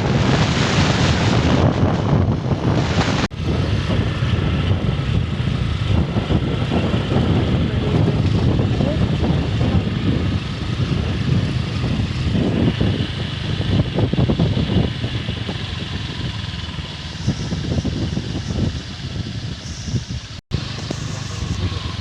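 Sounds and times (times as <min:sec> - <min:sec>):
rough low rumble: 0:00.0 - 0:22.0
vehicle engine running: 0:00.0 - 0:22.0.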